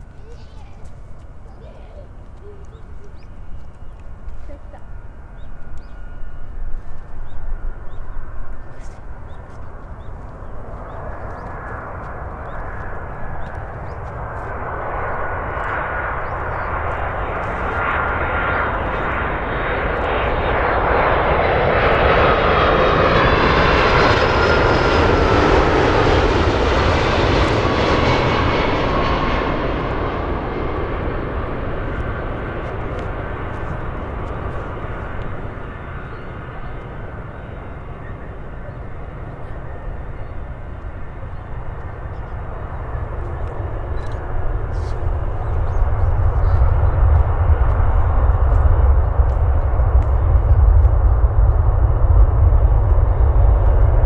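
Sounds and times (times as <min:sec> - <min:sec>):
airliner jet engines: 0:00.0 - 0:54.0
whining jet engine tones: 0:00.0 - 0:54.0.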